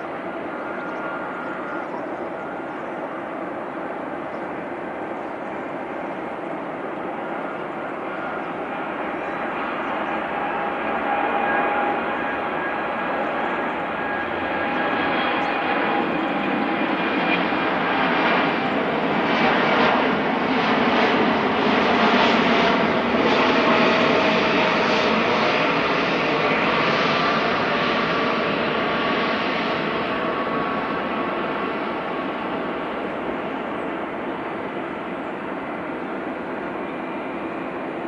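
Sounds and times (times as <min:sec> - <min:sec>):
jet engines at takeoff power: 0:00.0 - 0:38.0.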